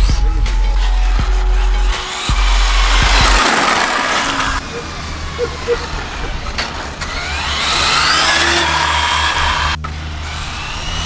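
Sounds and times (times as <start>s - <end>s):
rc car motor whining: 0.6s - 11.0s.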